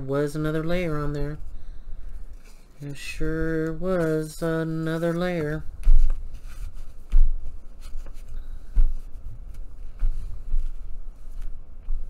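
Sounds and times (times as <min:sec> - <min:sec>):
hands rubbing paper: 0:02.2 - 0:12.0.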